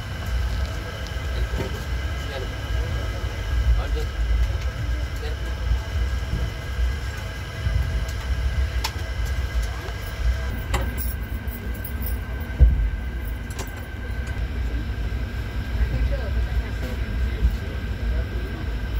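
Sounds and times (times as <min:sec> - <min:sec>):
faint steady whine: 0:00.0 - 0:18.9
train running rumble: 0:00.0 - 0:18.9.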